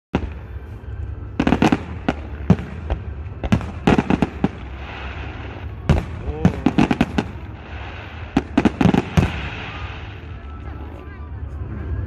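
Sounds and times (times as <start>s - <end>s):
fireworks bangs: 0.1s - 11.1s
steady low rumble: 0.1s - 12.0s.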